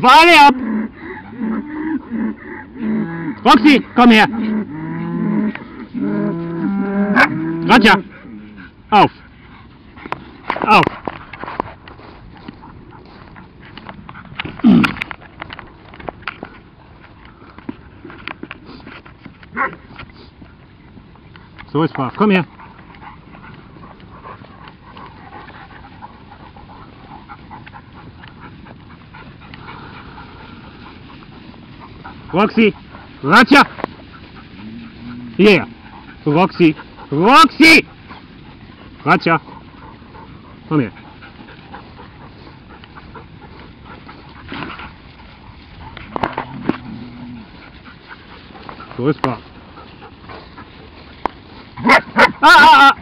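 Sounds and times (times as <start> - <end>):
rustling through grass: 0.6 - 53.0
dog panting: 8.0 - 19.0, 19.9 - 52.4.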